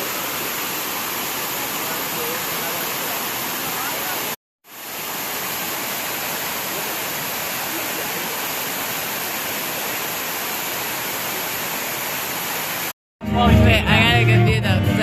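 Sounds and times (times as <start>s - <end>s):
waterfall roaring: 0.0s - 12.9s.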